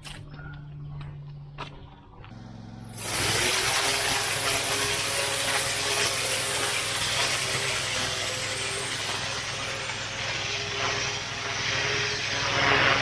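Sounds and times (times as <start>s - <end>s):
pressure washer engine hum: 2.3s - 13.0s
high-pressure water spraying: 2.4s - 13.0s.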